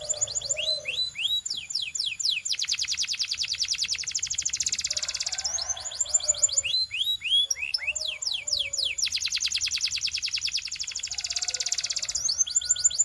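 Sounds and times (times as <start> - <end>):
canary singing trills and whistles: 0.0 - 13.0.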